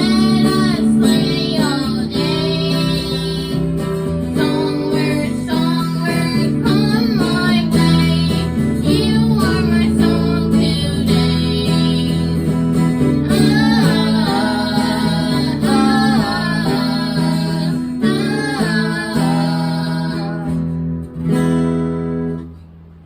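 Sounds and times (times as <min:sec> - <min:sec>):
person singing: 0:00.0 - 0:20.8
acoustic guitar strumming: 0:00.0 - 0:23.0.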